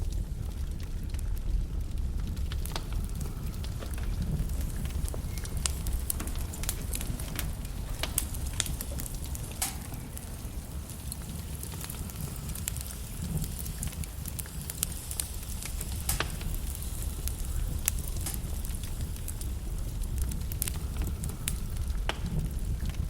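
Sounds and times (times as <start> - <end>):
fire pops and snaps: 0.0 - 23.0
log fire crackling: 0.0 - 23.0
low rumble of flames: 0.0 - 23.0.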